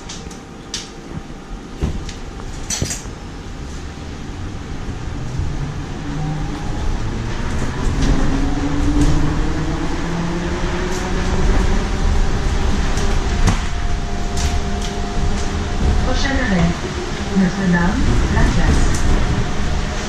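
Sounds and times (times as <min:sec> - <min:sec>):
road rumble: 0:00.0 - 0:20.0.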